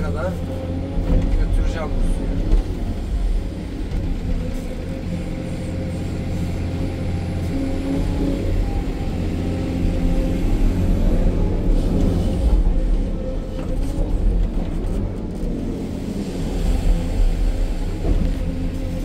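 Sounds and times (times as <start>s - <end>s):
excavator engine and hydraulics: 0.0s - 19.0s.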